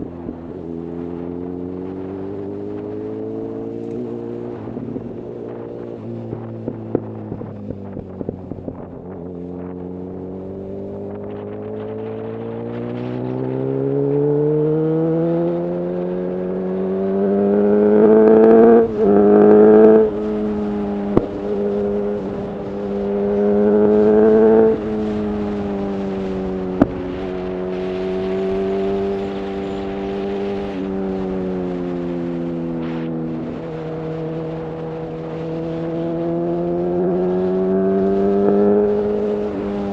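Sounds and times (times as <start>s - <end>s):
motorcycle engine accelerating: 0.0s - 39.9s
wind rushing: 4.4s - 39.9s.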